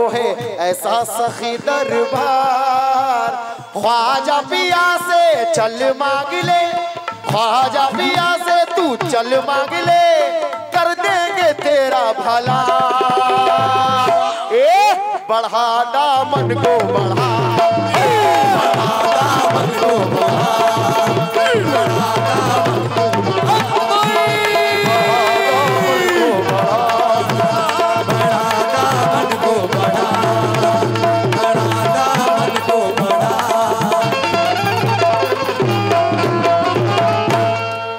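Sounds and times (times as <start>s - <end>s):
tabla drumming: 0.0s - 37.9s.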